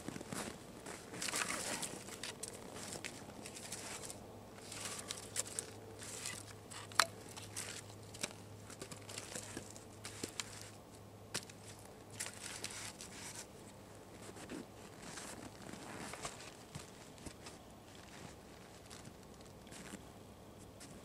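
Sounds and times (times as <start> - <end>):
rustling and crinkling of gear: 0.0 - 20.0.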